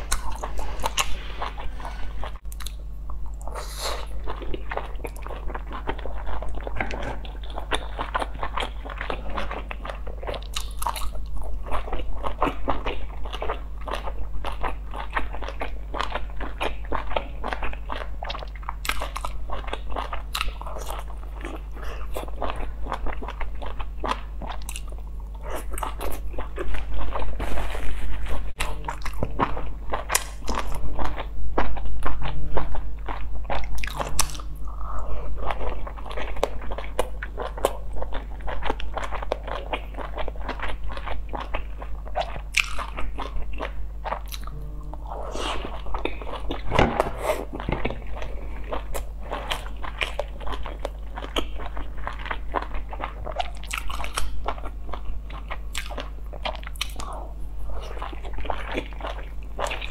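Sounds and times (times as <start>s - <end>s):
biting and wet chewing: 0.0s - 59.9s.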